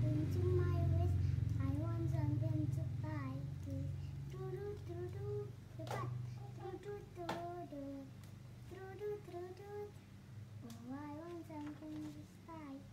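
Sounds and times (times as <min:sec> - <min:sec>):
young child singing: 0:00.0 - 0:10.0, 0:10.6 - 0:12.9.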